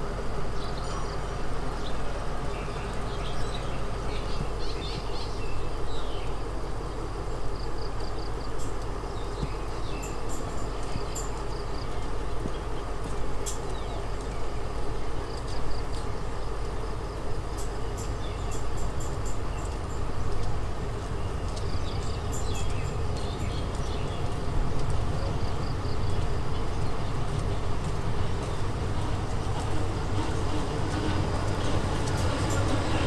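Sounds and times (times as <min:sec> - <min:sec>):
train rumble from inside coach: 0:00.0 - 0:33.0
birds chirping: 0:00.5 - 0:33.0.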